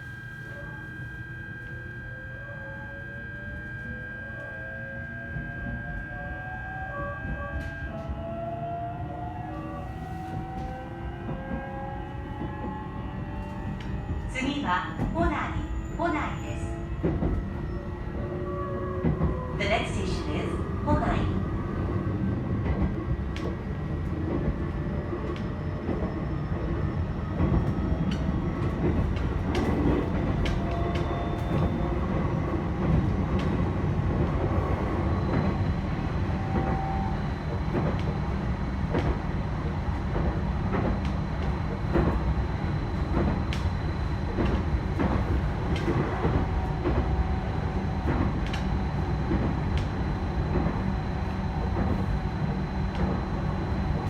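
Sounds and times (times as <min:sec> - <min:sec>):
wheels rumbling on rail: 0:09.2 - 0:54.0.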